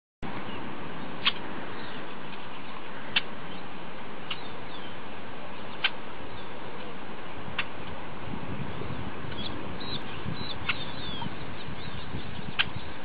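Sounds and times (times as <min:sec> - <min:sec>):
outdoor background hiss: 0:00.2 - 0:13.0.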